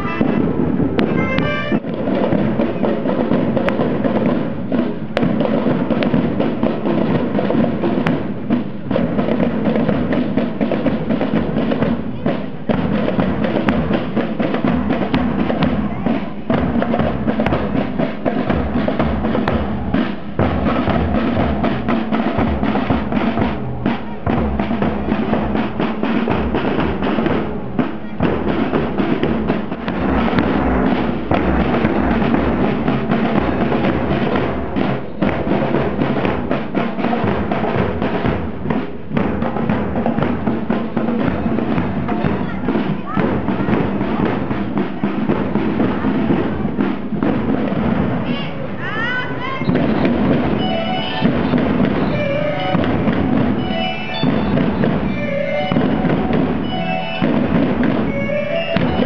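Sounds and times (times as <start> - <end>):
marching drum band: 0.0 - 59.0.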